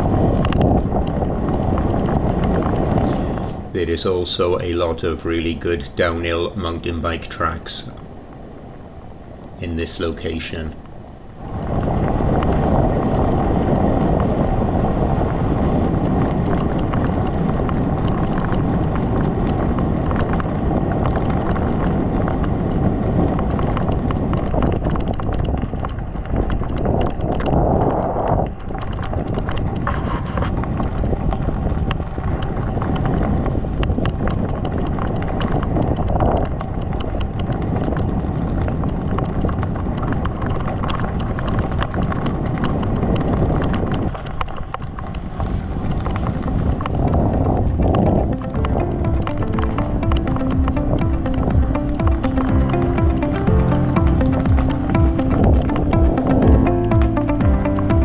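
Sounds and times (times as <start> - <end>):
wind buffeting microphone: 0.0 - 9.6, 10.7 - 51.3.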